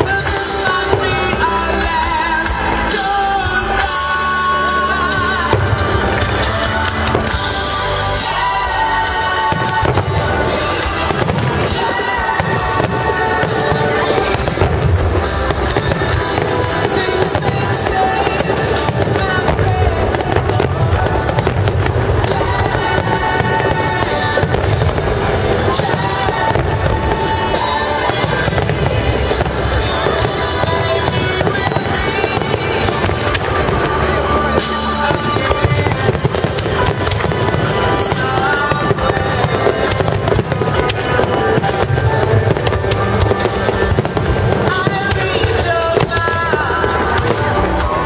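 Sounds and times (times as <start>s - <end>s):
fireworks bursting and crackling: 0.0s - 48.0s
music playing: 0.0s - 48.0s.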